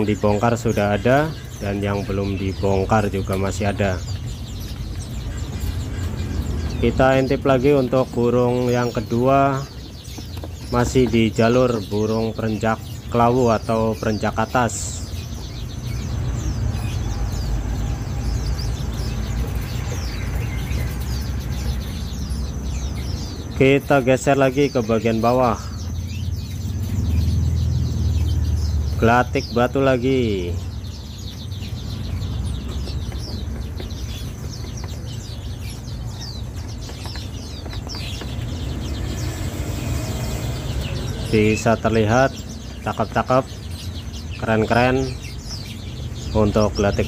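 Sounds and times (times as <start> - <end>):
cage birds chirping: 0.0 - 47.0.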